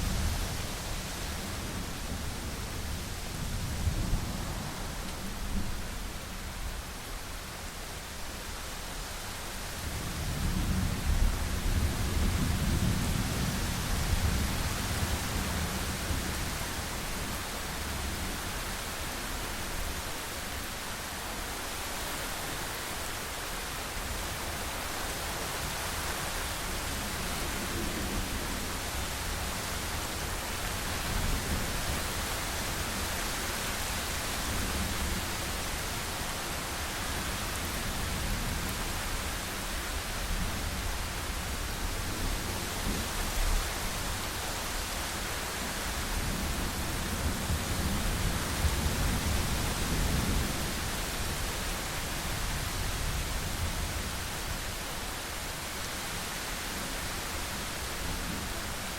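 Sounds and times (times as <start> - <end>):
rain hiss: 0.0 - 58.9.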